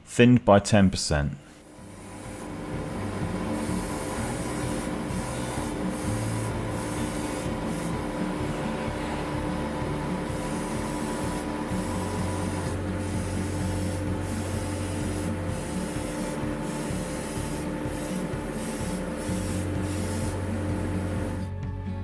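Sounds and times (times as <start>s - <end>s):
steady low hum: 1.4s - 22.0s
airbrush hissing: 1.6s - 21.5s.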